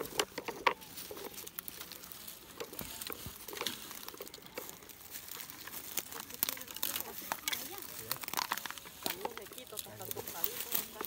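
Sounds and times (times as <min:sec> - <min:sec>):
dry sticks crackling and snapping: 0:00.0 - 0:11.0.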